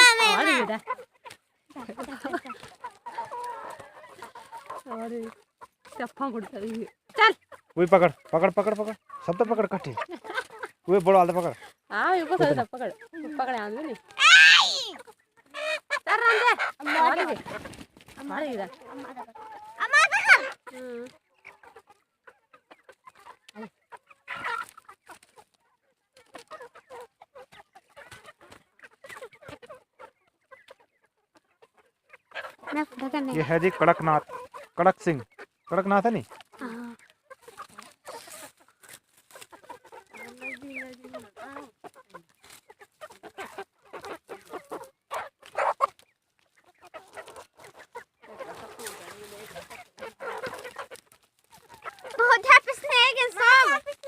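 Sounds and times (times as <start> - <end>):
chickens clucking and squawking: 0.0 - 54.0.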